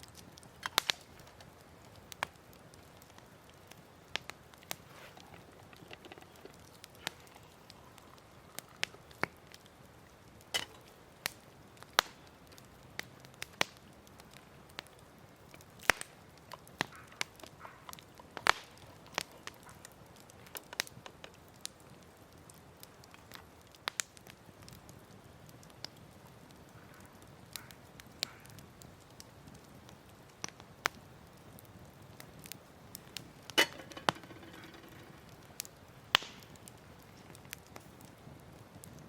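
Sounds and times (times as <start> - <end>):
campfire crackling and popping: 0.0 - 39.0
faint steady hiss: 0.0 - 39.0.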